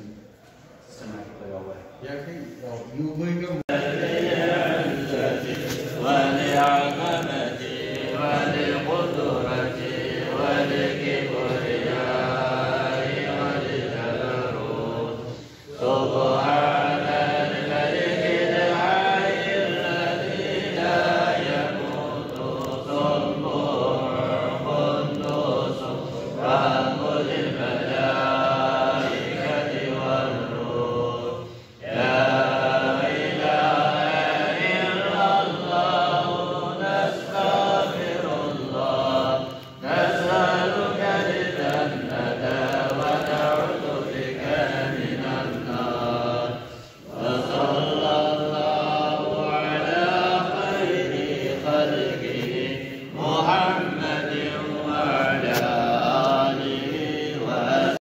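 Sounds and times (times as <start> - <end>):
man chanting a recitation: 0.0 - 58.0.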